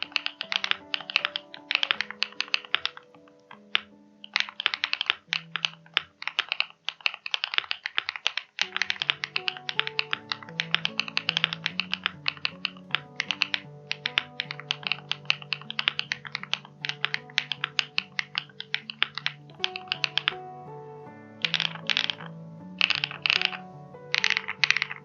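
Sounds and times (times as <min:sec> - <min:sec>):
background music: 0:00.0 - 0:07.2, 0:08.6 - 0:25.0
fast mechanical keyboard typing: 0:00.0 - 0:20.4, 0:21.4 - 0:25.0.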